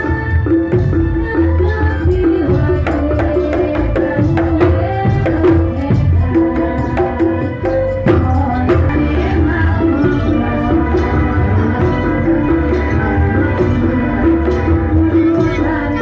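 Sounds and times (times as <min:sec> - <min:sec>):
hand drums and bass drum: 0:00.0 - 0:16.0.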